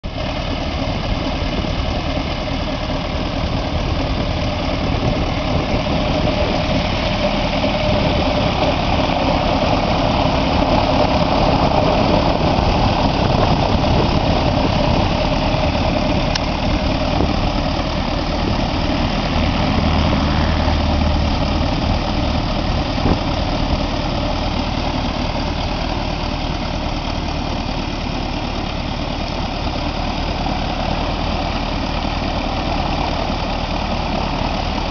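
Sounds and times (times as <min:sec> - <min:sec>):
aircraft engine idling: 0:00.0 - 0:34.9.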